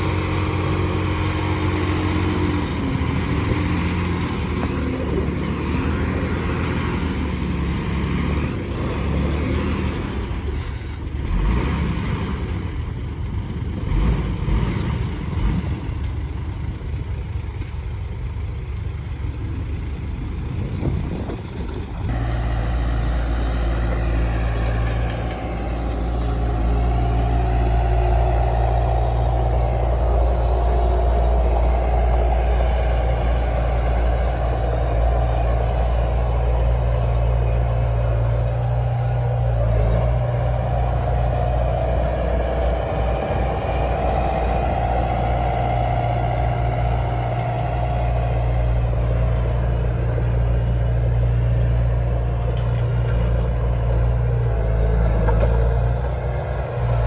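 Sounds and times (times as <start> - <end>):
steady deeper engine note: 0.0 - 12.9, 19.1 - 57.0
diesel engines of earthmoving machines: 0.0 - 57.0.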